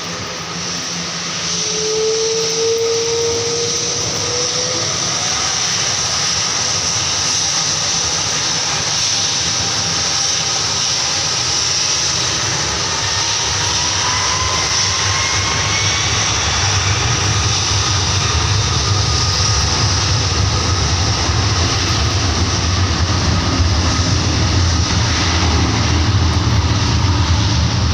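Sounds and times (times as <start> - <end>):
deep rumble: 0.0 - 27.9
jet engines roaring: 0.0 - 27.9.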